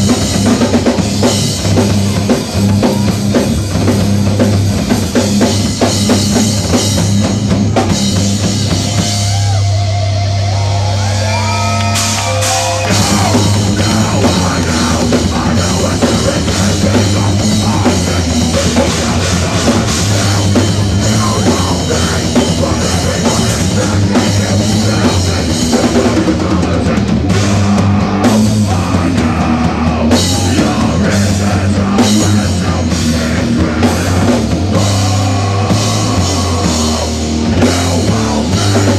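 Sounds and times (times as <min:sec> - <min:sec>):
rock band playing heavy rock: 0:00.0 - 0:38.9
wavering lead guitar: 0:06.4 - 0:38.9.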